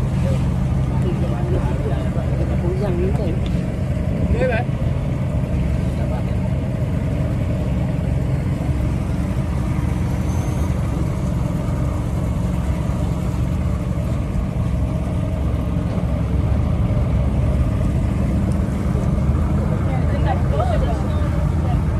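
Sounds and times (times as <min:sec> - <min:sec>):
speedboat engine droning: 0:00.0 - 0:21.9.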